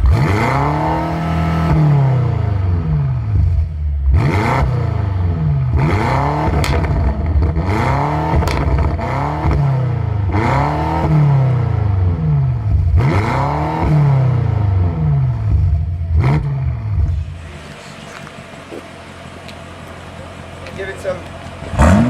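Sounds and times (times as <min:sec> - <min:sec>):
car engine revving: 0:00.0 - 0:22.0
exhaust cracks: 0:00.0 - 0:22.0.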